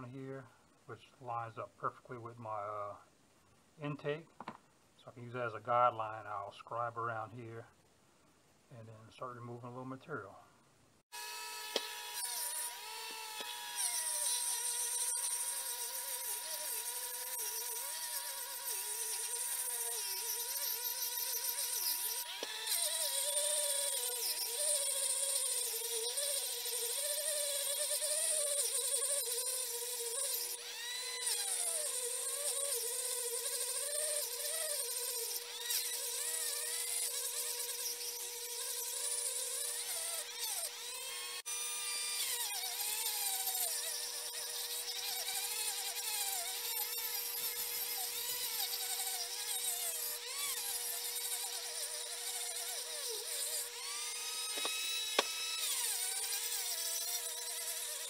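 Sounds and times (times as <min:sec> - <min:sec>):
rotary tool grinding metal: 0:11.1 - 0:58.0.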